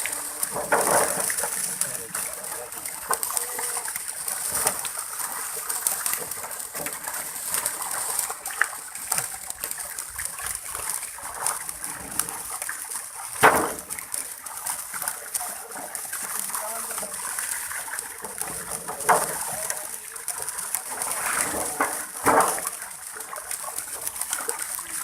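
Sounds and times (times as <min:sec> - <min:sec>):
water splashing: 0:00.0 - 0:25.0.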